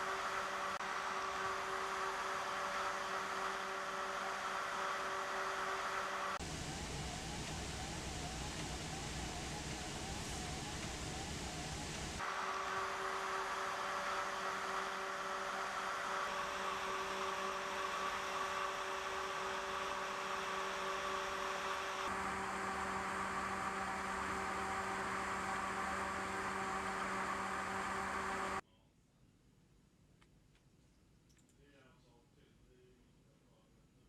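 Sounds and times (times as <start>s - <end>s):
mechanical hum and whir: 0.0s - 28.6s.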